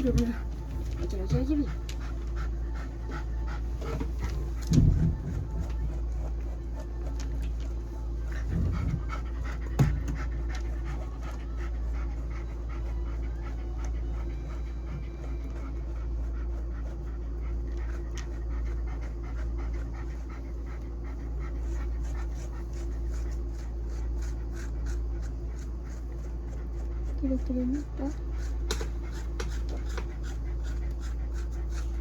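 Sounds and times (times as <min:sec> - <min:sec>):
dog panting: 0:00.0 - 0:32.0.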